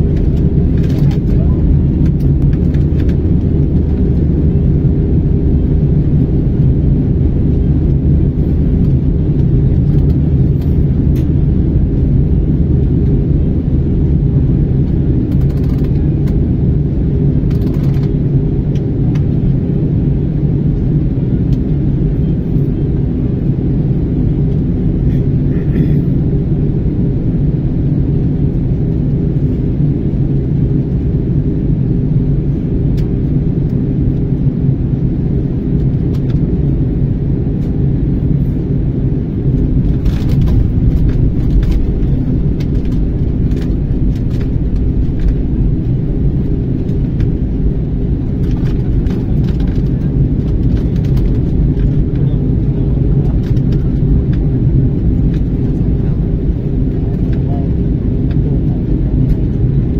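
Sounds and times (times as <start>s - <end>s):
airliner cabin roar: 0.0s - 59.9s.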